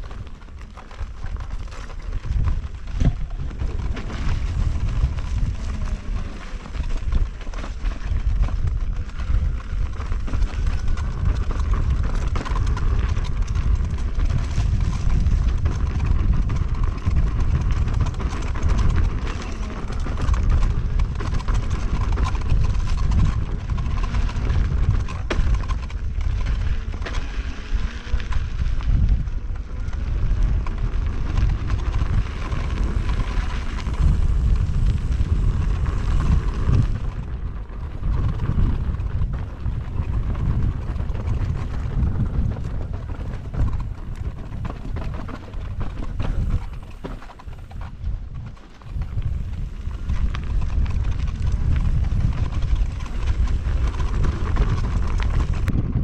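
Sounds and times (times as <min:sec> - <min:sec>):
wind and ride rumble: 0:00.0 - 0:56.0.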